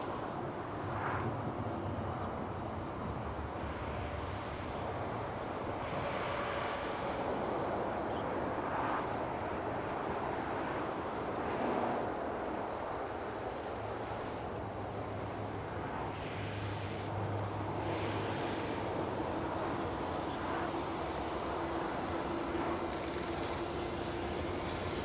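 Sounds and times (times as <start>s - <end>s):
freight train rumbling past: 0.1s - 25.0s.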